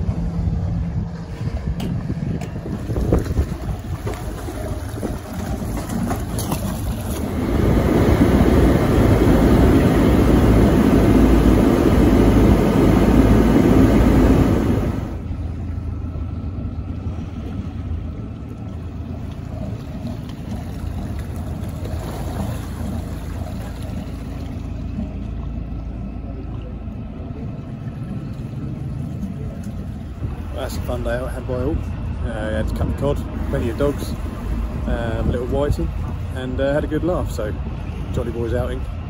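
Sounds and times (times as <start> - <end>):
boat engine running: 0.0 - 39.0
rush of hull and wake: 0.0 - 39.0.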